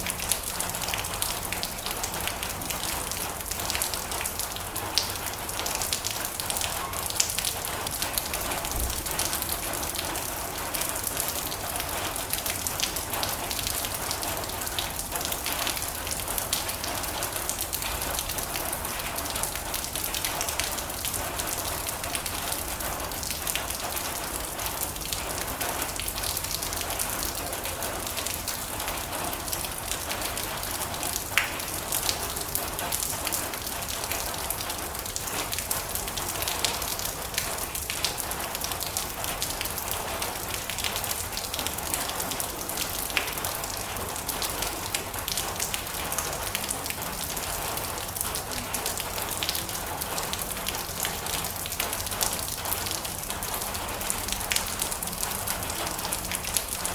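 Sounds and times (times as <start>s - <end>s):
heavy rain on a metal roof: 0.0s - 56.9s.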